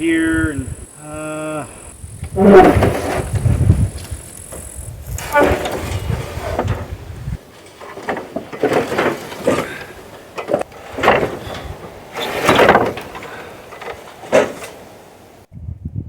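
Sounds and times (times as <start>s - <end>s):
heavy metal parts scraping: 2.3s - 15.4s.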